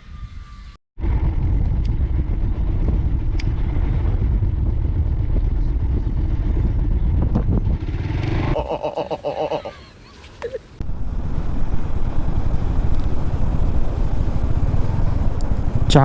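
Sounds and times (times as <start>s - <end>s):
wind noise: 0.0s - 8.6s, 10.8s - 16.0s
motorcycle engine rumble: 1.0s - 9.7s, 10.7s - 16.0s.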